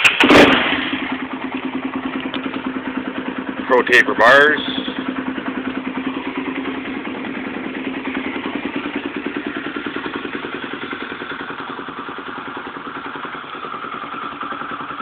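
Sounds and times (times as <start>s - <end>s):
quad bike engine idling: 0.0s - 15.0s.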